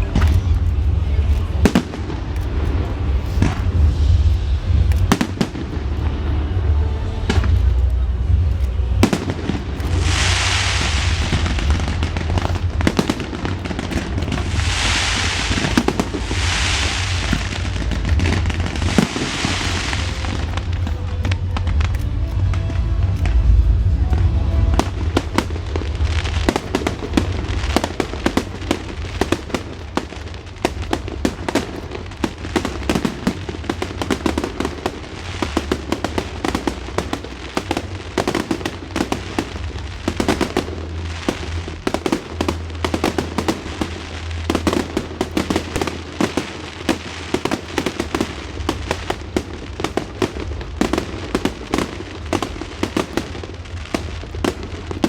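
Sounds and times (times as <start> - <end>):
fireworks cracking and popping: 0.0 - 55.0.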